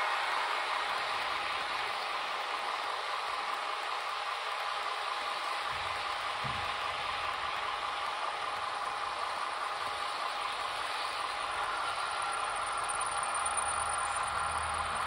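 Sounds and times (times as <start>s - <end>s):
electric locomotive hum and hiss: 0.0s - 15.0s
model train rolling on track: 0.0s - 15.0s.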